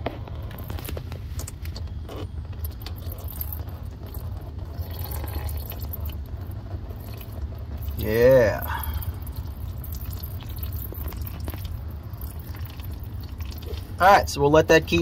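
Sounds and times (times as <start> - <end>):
steady low rumble: 0.0 - 15.0
oil dripping into pan: 0.4 - 14.0.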